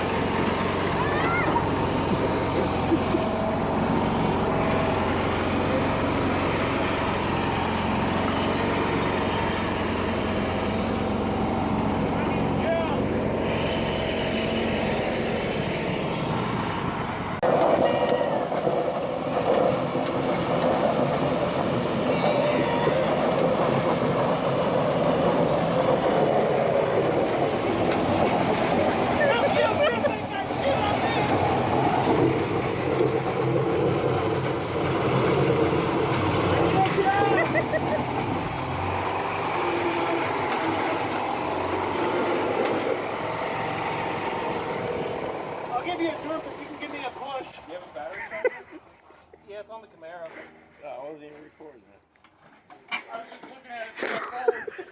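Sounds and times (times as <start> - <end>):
lawn tractor engines running: 0.0 - 54.9.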